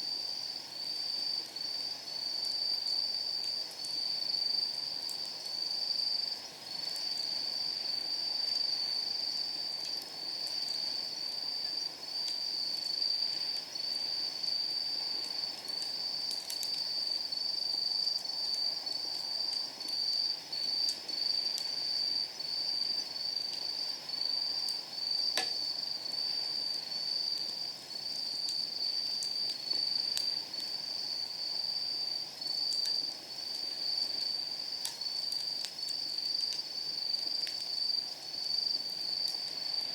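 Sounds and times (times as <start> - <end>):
night insects trilling: 0.0 - 39.9
wood fire crackling: 0.0 - 39.9.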